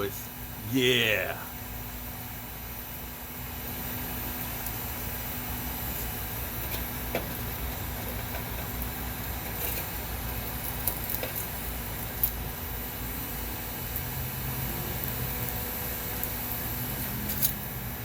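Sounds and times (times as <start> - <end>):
propane burner hissing: 0.0 - 18.0.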